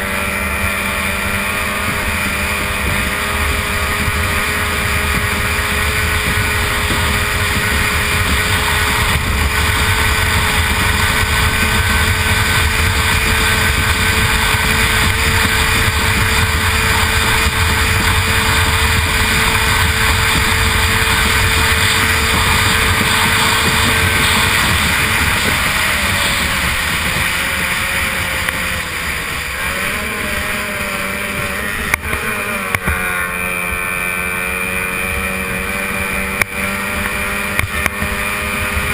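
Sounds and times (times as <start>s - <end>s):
racing outboard engine: 0.0s - 38.9s
wind and water rush: 0.0s - 38.9s.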